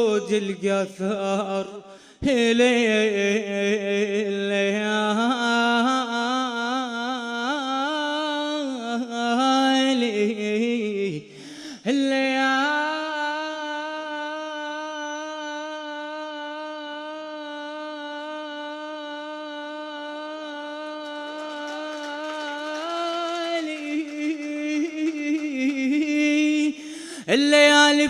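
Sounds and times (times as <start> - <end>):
man chanting: 0.0 - 28.0.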